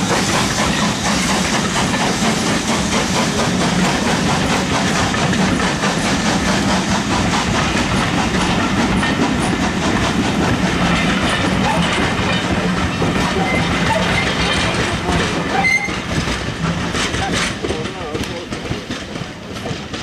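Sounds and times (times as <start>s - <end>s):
train wheels clicking over rail joints: 0.0s - 20.0s.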